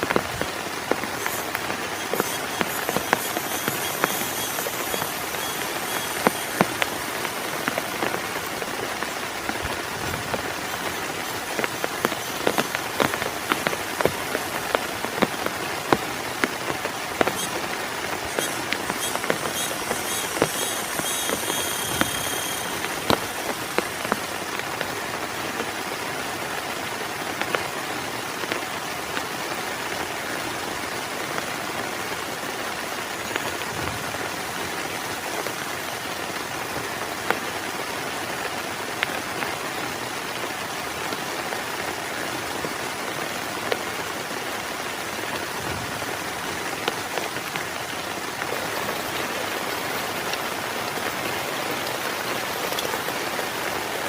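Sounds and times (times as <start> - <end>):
heavy rain falling: 0.0 - 54.0
sharp raindrop strikes: 0.0 - 54.0.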